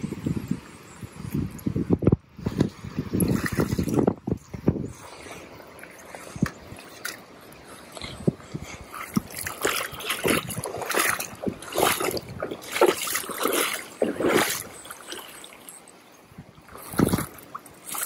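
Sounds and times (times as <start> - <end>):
water splashing: 2.4 - 4.4, 5.1 - 18.0.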